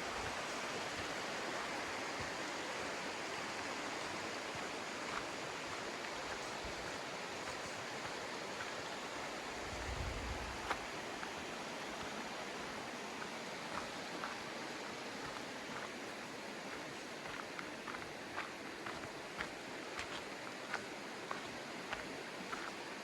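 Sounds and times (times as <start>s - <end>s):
river rushing over stones: 0.0s - 23.0s
footsteps on river rocks: 0.2s - 23.0s.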